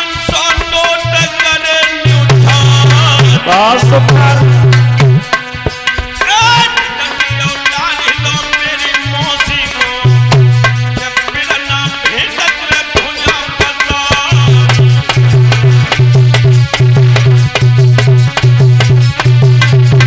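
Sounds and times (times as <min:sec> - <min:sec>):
hand drums rhythm: 0:00.0 - 0:20.0.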